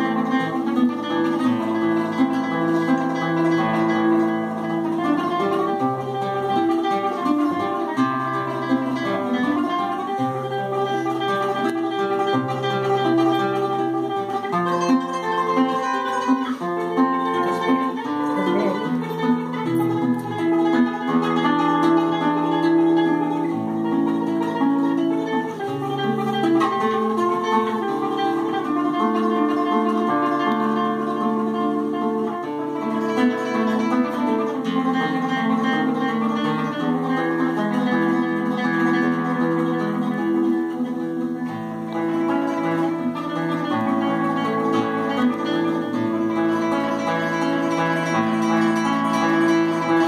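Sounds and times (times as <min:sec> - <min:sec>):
classical guitar playing: 0:00.0 - 0:50.0.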